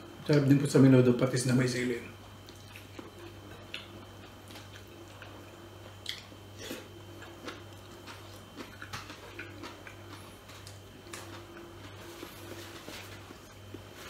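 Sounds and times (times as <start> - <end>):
steady low hum: 0.0 - 14.0
person chewing: 2.4 - 14.0.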